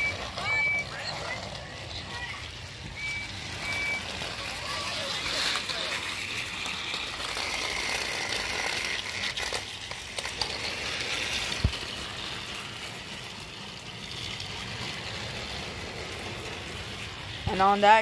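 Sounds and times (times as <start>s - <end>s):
toy train motors whirring: 0.0s - 18.0s.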